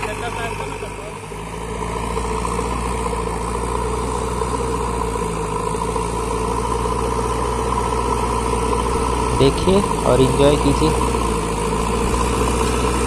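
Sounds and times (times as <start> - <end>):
diesel engine running: 0.0 - 13.0
loader bucket pushing soil: 0.0 - 13.0.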